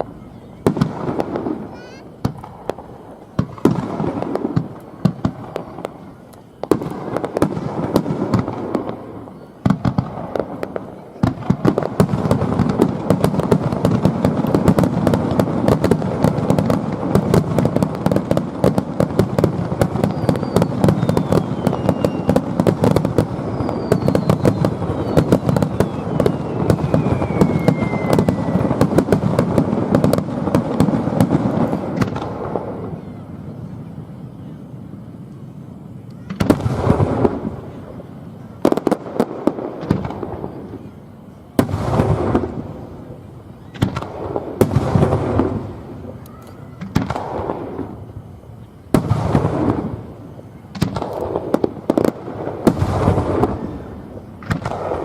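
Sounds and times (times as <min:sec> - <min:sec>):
firework bangs and crackling: 0:00.0 - 0:55.0
whistling firework shells: 0:00.0 - 0:55.0.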